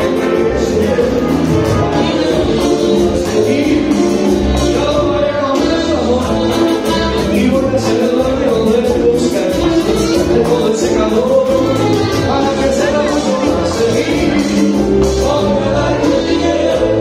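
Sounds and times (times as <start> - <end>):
live band with singer: 0.0 - 17.0.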